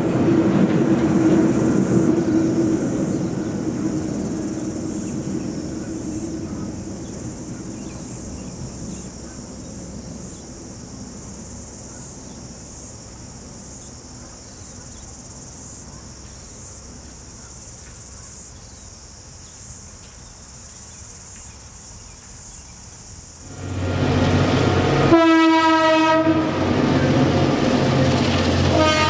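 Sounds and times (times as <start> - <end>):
distant freight train rumble: 0.0 - 29.0
insects chirring: 0.1 - 29.0.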